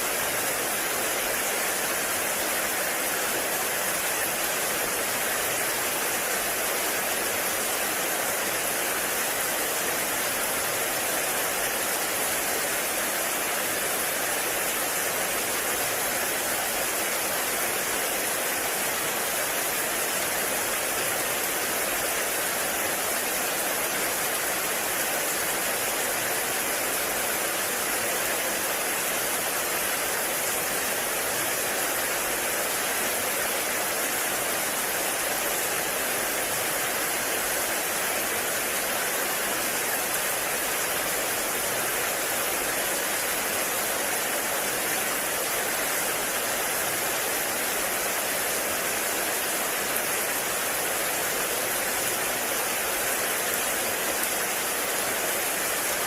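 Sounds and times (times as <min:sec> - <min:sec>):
heavy rain in forest: 0:00.0 - 0:56.0.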